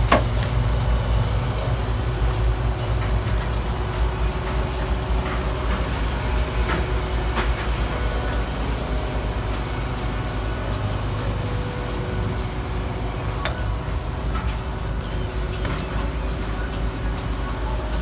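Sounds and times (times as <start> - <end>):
garbage truck engine rumbling: 0.0 - 18.0.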